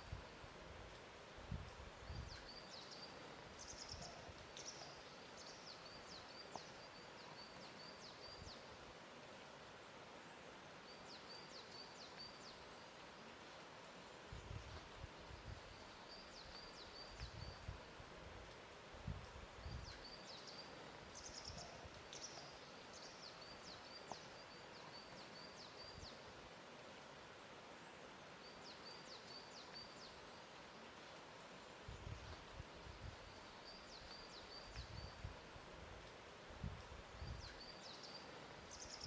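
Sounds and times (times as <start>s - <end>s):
quiet steady hiss: 0.0s - 39.0s
songbird chirping: 0.0s - 39.0s.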